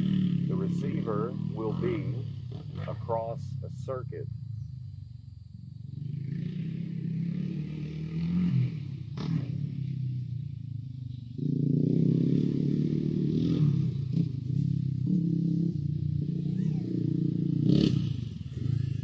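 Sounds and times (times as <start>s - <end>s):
quad bike engine revving: 0.0s - 4.2s, 5.9s - 19.0s.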